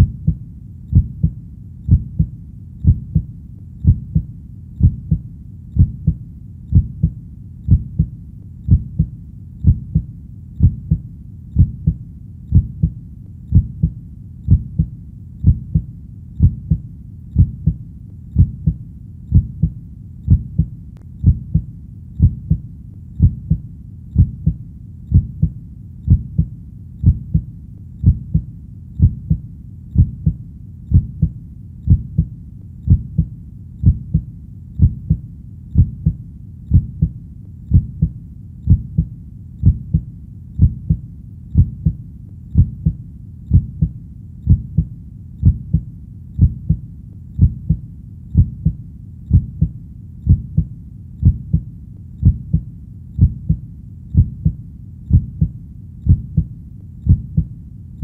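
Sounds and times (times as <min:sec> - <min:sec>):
heartbeat: 0:00.0 - 0:57.6.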